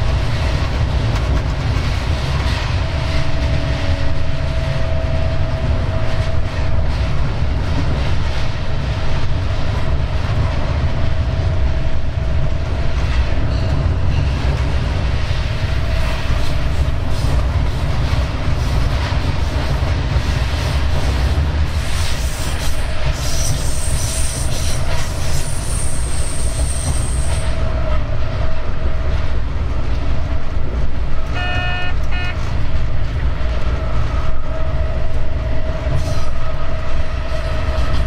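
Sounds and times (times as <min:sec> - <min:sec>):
locomotive engine rumble: 0:00.0 - 0:38.0.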